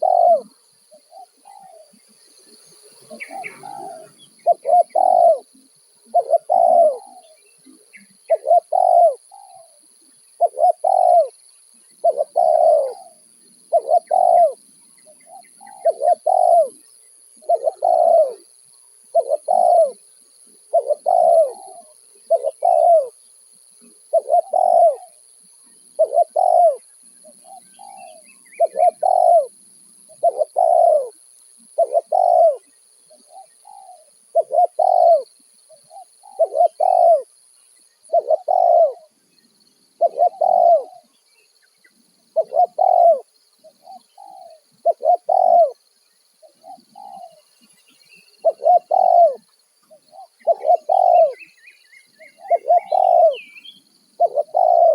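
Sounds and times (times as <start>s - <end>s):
dove cooing: 0.0s - 2.2s, 2.8s - 37.4s, 38.0s - 39.2s, 39.9s - 41.1s, 42.2s - 45.8s, 46.4s - 47.6s, 48.3s - 51.5s, 52.2s - 54.9s
faint high hiss: 0.0s - 54.9s.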